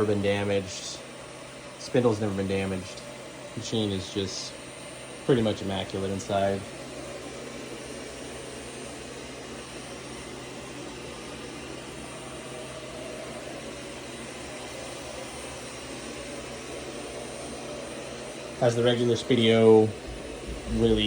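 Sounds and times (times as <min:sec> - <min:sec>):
even hiss: 0:00.0 - 0:21.0
low machine hum: 0:00.0 - 0:21.0.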